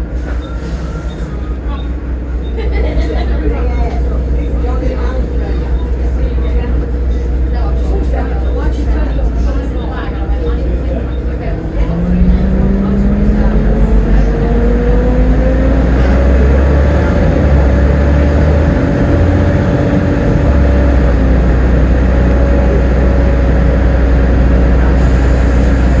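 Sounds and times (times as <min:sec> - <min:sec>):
bus diesel engine rumble and whine: 0:00.0 - 0:26.0.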